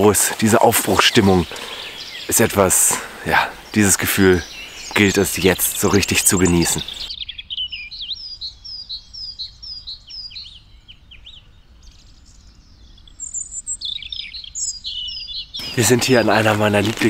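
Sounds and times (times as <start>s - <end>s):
songbirds whistling: 0.0s - 17.0s.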